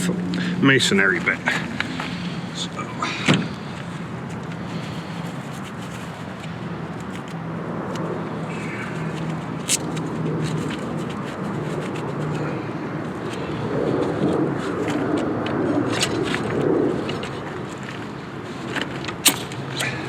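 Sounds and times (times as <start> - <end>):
low outdoor hum: 0.0 - 20.0.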